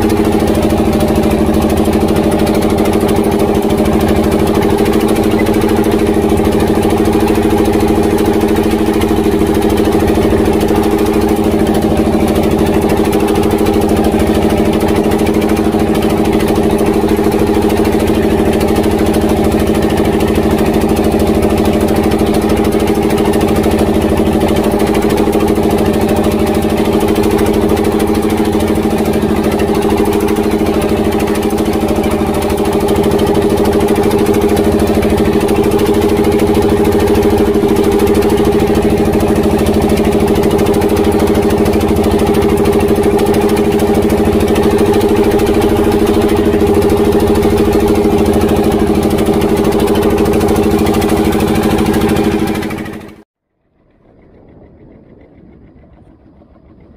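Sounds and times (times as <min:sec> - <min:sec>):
diesel boat engine running: 0:00.0 - 0:56.9.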